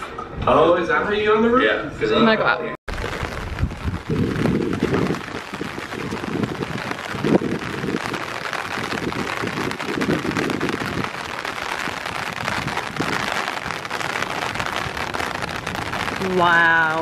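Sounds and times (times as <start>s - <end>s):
heavy rain pouring: 2.9s - 17.0s
low rumbling: 2.9s - 17.0s.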